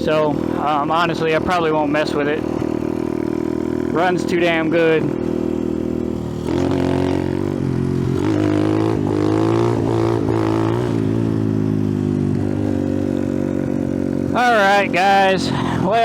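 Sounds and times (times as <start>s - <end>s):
minibike engine running: 0.0s - 16.0s.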